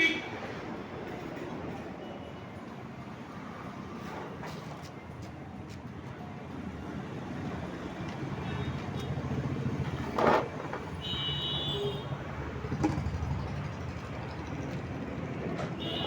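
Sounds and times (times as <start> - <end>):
traffic engine rumble: 2.6 - 16.0.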